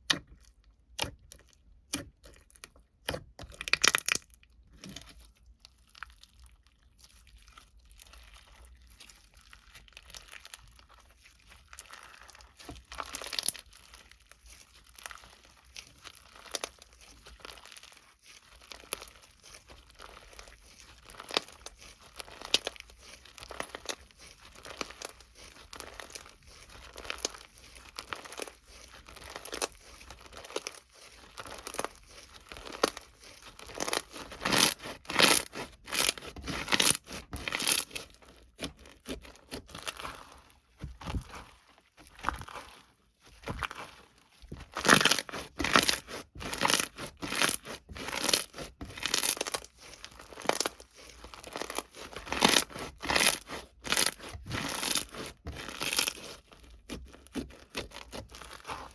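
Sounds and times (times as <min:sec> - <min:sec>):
crinkling handling noises: 0:04.6 - 0:58.9.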